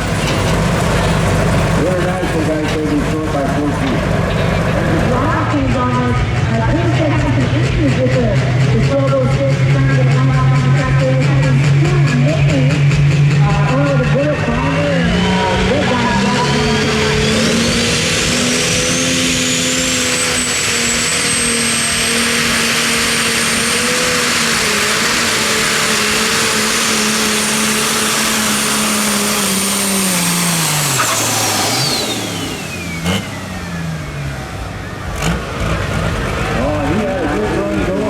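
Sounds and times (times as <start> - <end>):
turbo whine: 0.0 - 35.4
diesel engine running flat out: 0.0 - 38.0.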